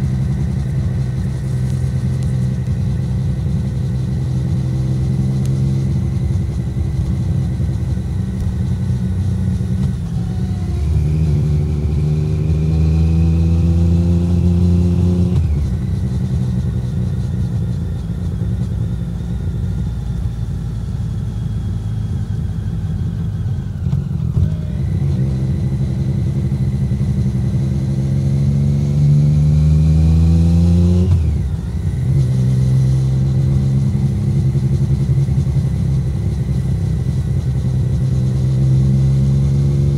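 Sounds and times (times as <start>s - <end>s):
motorcycle engine revving: 0.0s - 18.8s, 21.4s - 39.9s.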